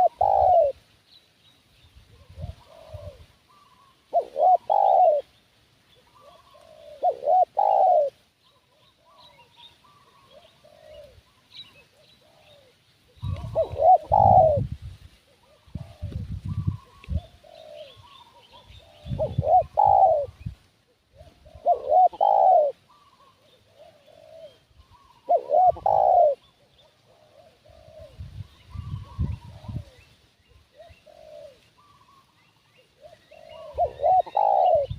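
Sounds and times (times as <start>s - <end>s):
doves cooing: 0.0s - 0.8s, 2.1s - 5.3s, 6.0s - 14.7s, 15.3s - 34.9s
small birds chirping: 0.0s - 34.9s.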